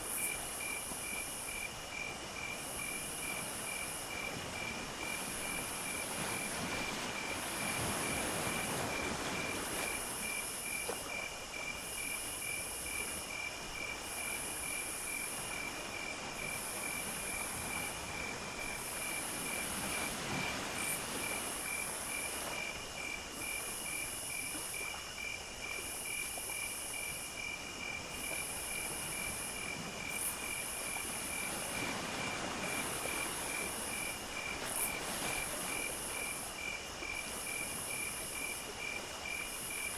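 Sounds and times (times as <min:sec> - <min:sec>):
cricket chirping rapidly: 0:00.0 - 0:39.9.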